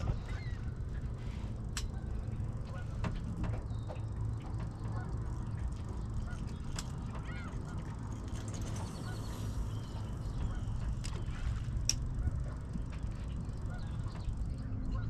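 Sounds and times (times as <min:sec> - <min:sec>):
fishing rods clicking and knocking: 0:00.0 - 0:15.0
wind rumbling on microphone: 0:00.0 - 0:15.0.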